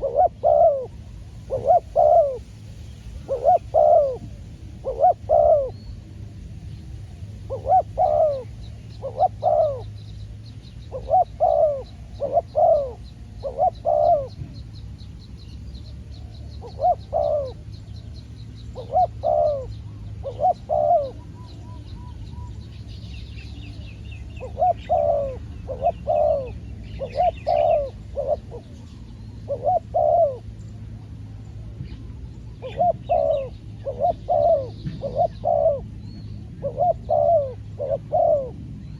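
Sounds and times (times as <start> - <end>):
doves cooing: 0.0 - 38.9
small birds chirping faintly: 0.0 - 38.9.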